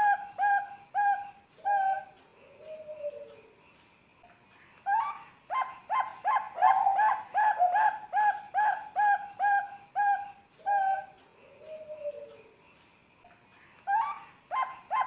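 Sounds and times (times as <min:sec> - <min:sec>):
dove cooing: 0:00.0 - 0:03.5, 0:04.9 - 0:12.5, 0:13.9 - 0:15.0.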